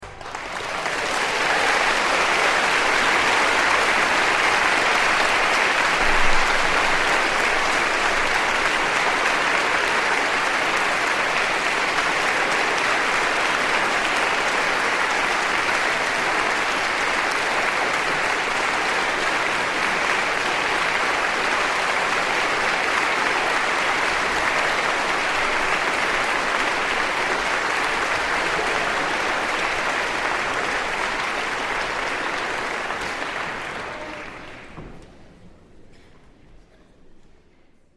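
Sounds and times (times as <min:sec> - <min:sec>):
audience applauding: 0:00.0 - 0:35.3.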